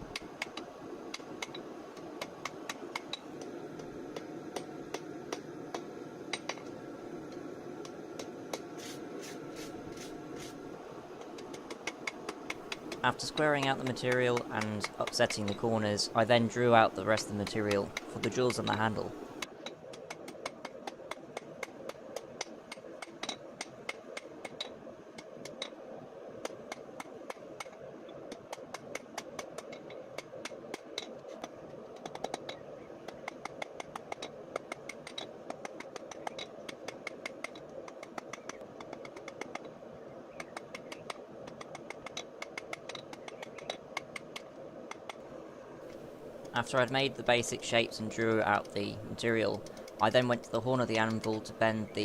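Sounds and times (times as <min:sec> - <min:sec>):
steady rushing noise: 0:00.0 - 0:52.0.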